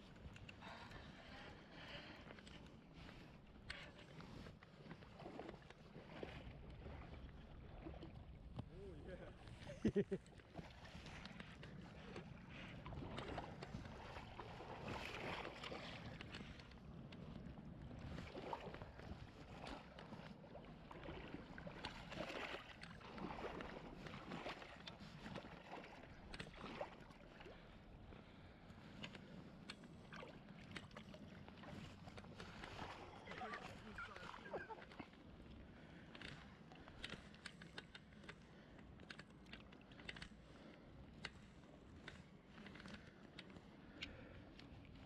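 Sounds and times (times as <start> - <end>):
river water splashing and gurgling: 0.1 - 45.0.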